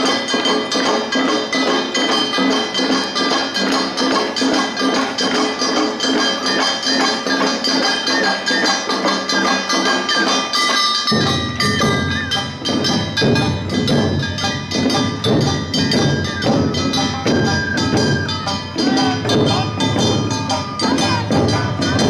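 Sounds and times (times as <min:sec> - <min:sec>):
drums beating: 0:00.0 - 0:22.0
bamboo flute melody: 0:04.3 - 0:22.0.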